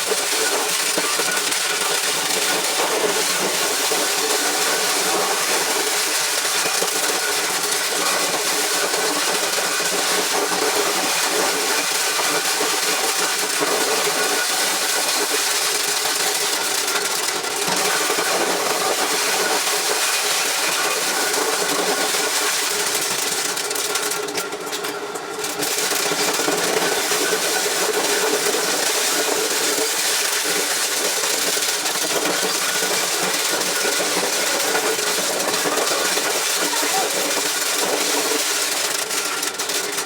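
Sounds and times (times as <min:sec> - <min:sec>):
corn shelling machine running: 0:00.0 - 0:40.0.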